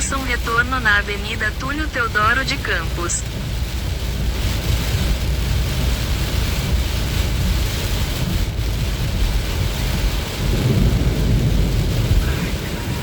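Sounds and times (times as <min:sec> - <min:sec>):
deep low rumble: 0:00.0 - 0:13.0
heavy rain on a car: 0:00.0 - 0:13.0.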